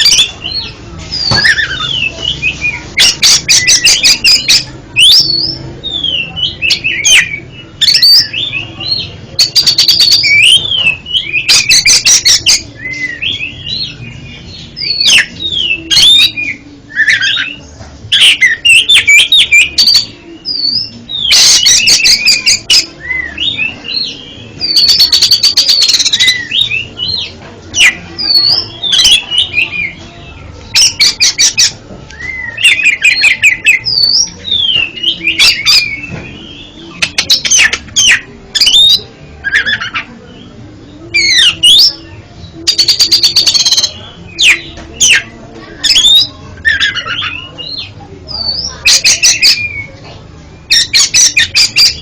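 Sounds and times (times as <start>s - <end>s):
bird singing whistled notes: 0.0s - 30.1s, 30.7s - 45.3s, 45.9s - 50.0s, 50.6s - 52.0s.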